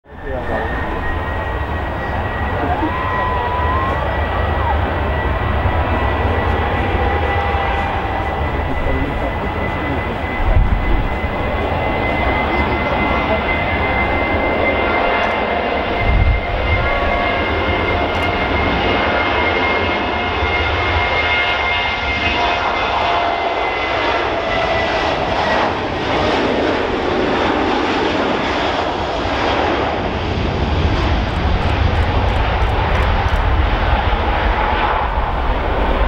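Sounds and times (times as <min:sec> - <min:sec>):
jet engine whining tones: 0:00.1 - 0:36.0
jet engines roaring: 0:00.1 - 0:36.0.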